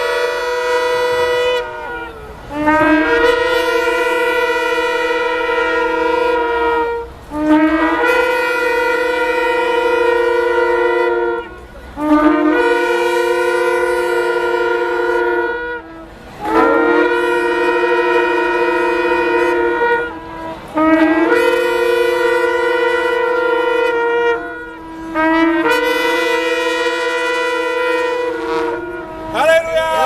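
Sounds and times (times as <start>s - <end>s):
shofar blasts: 0.0s - 30.0s.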